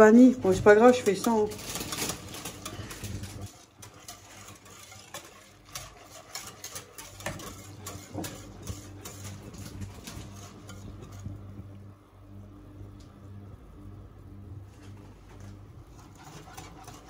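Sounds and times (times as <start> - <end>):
whisk scraping a saucepan: 0.0 - 11.6, 14.7 - 17.0.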